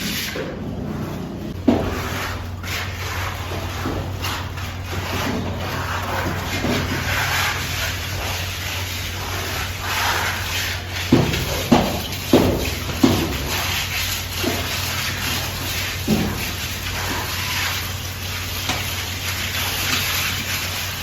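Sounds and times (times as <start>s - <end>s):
plaster scraping: 0.0s - 21.0s.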